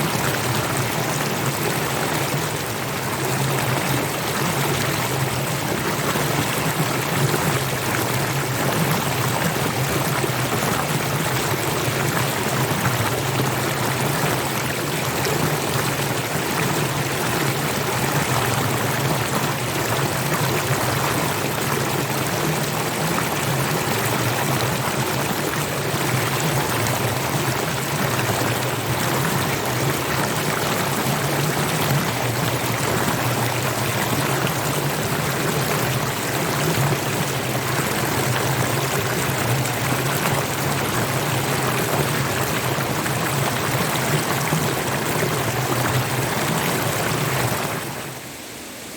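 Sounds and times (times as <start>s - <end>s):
waterfall water rushing: 0.0s - 48.9s.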